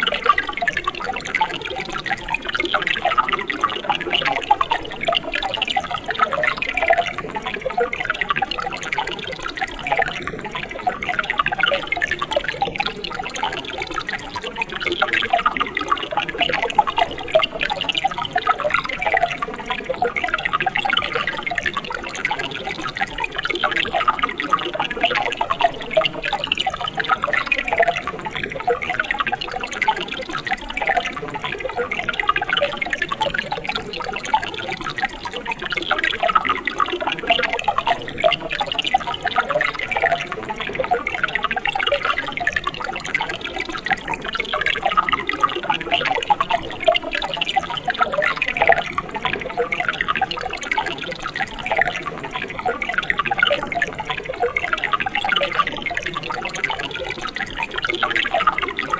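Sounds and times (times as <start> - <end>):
stream water flowing and burbling: 0.0 - 58.9.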